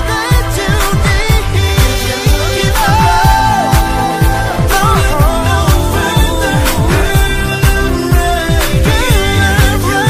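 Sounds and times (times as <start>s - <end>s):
song with deep bass drums: 0.0s - 10.0s
bending melody line: 0.5s - 10.0s.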